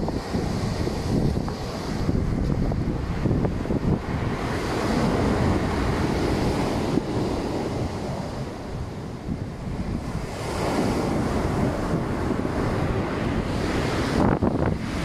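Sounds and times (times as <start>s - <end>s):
rough surf breaking: 0.0s - 15.0s
wind buffeting microphone: 0.0s - 15.0s.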